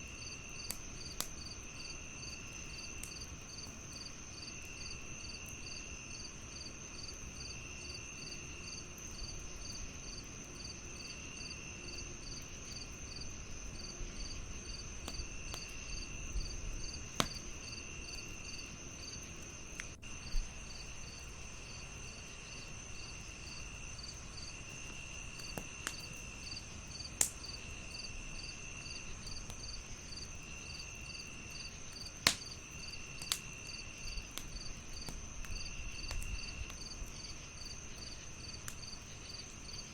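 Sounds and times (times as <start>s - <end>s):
crickets chirping: 0.0s - 39.9s
wood fire crackling and popping: 0.1s - 5.8s, 11.9s - 39.9s.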